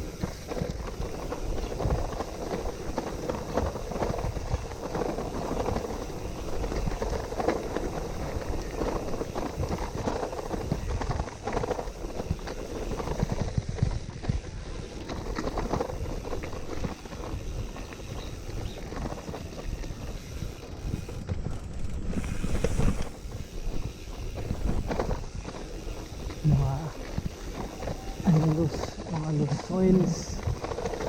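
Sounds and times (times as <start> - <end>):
bike rattling and knocking: 0.0 - 31.0
tyres crunching on gravel trail: 0.0 - 31.0.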